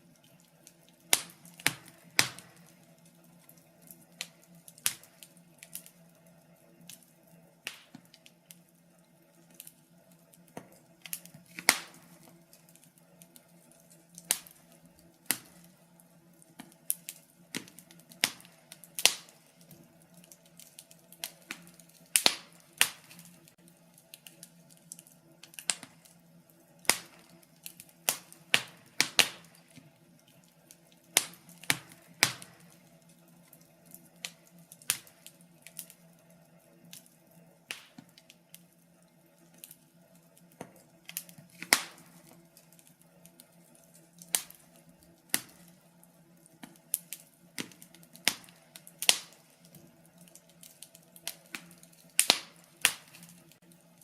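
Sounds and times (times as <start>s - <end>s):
wood fire crackling: 0.0s - 54.0s
sharp pops and snaps: 0.2s - 6.1s, 6.8s - 8.7s, 9.5s - 26.2s, 26.8s - 36.1s, 37.7s - 38.7s, 39.5s - 53.7s.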